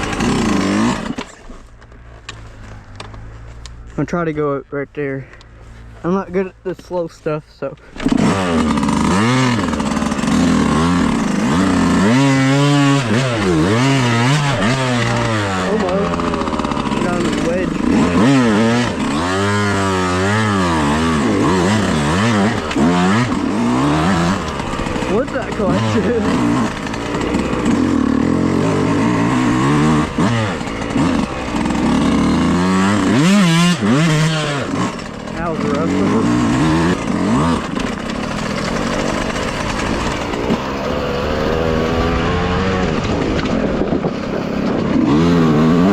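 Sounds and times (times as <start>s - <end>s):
dirt bike engine revving: 0.0s - 1.7s, 5.6s - 45.9s.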